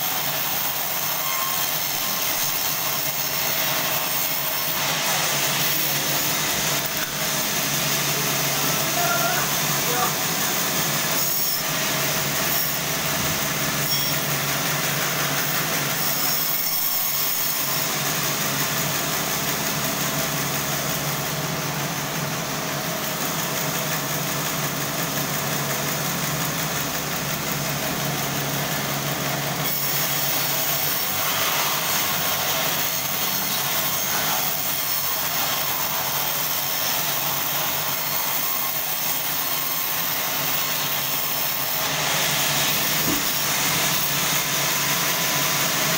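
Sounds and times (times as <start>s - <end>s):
band saw cutting log: 0.0s - 45.9s.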